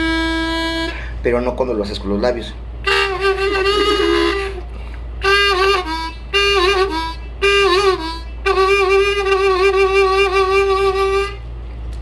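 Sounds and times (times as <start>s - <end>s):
harmonica with bending notes: 0.0s - 1.2s, 2.8s - 11.5s.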